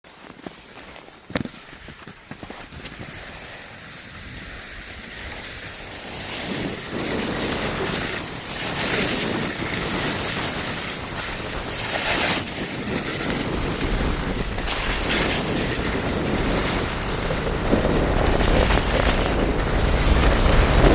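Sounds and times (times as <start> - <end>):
skis hissing on snow: 1.6 - 20.9
wind rushing over microphone: 4.1 - 20.9.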